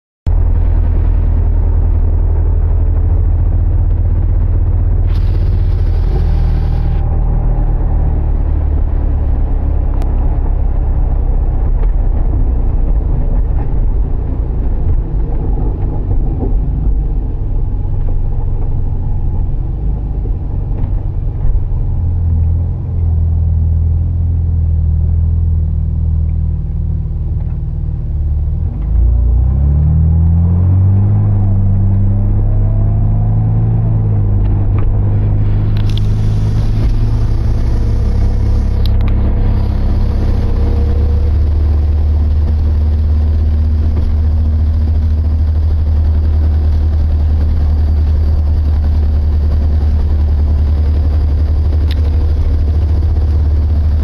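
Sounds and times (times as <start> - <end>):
car drivetrain and road drone: 0.3 - 54.0.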